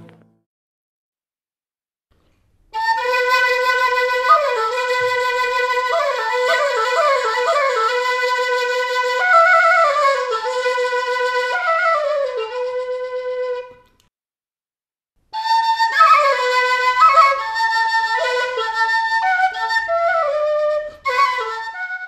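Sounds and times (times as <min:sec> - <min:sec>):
flute playing slow melody: 0:02.8 - 0:13.9, 0:15.4 - 0:22.0.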